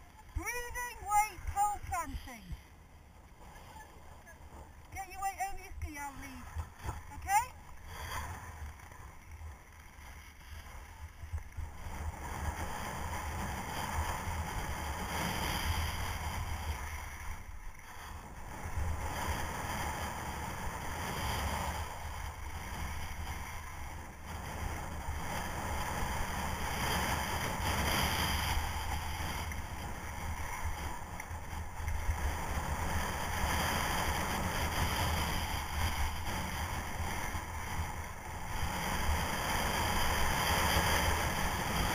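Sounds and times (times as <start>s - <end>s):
skis scraping on hard snow: 6.0s - 41.9s.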